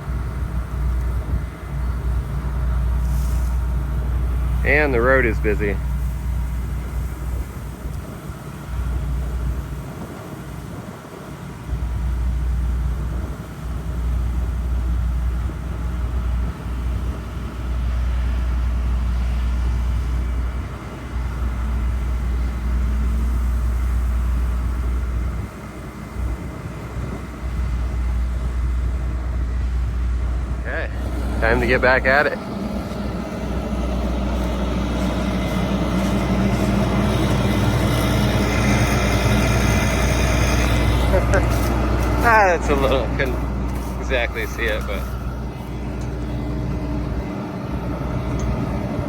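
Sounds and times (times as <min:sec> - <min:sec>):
tractor engine running: 0:00.0 - 0:49.0
wind rumbling on microphone: 0:00.0 - 0:49.0.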